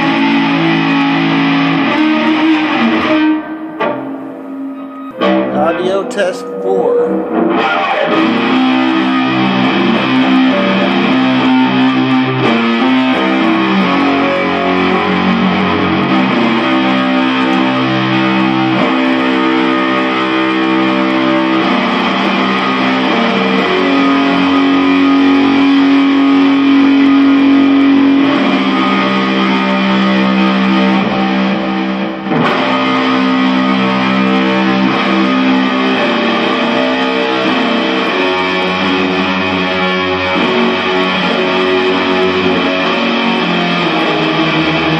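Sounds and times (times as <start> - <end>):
distorted electric guitar chords: 0.0 - 44.9.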